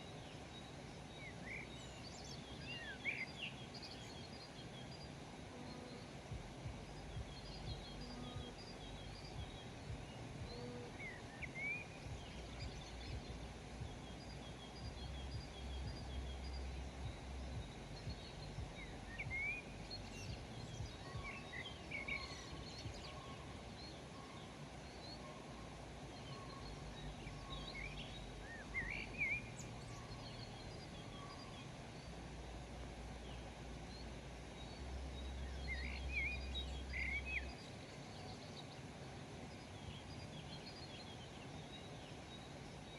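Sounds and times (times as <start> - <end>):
faint low rumble: 0.0 - 42.9
small birds chirping: 0.0 - 42.9
steady outdoor hiss: 0.0 - 42.9.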